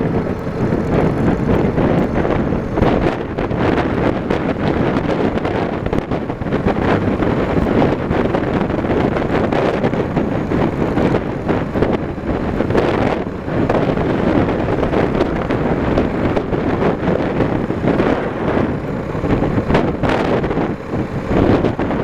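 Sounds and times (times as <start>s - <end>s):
motorcycle engine: 0.0s - 22.0s
road noise rumble: 0.0s - 22.0s
wind rushing over microphone: 0.0s - 22.0s.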